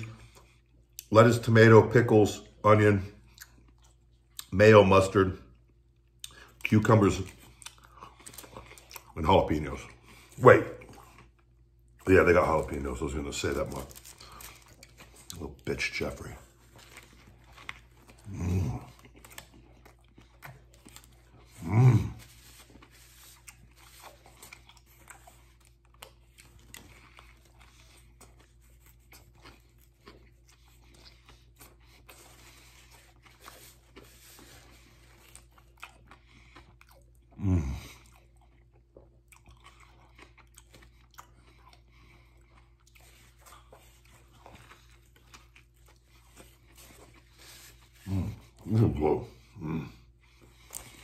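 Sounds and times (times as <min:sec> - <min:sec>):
man chewing crunchy food: 0:00.0 - 0:51.0.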